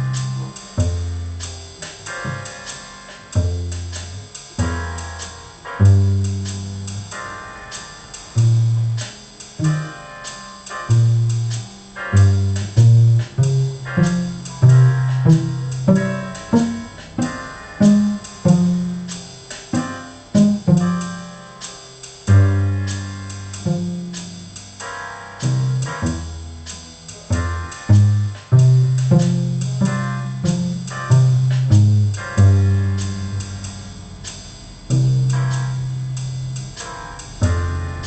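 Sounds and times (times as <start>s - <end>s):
piano chords over bass notes: 0.0s - 38.0s.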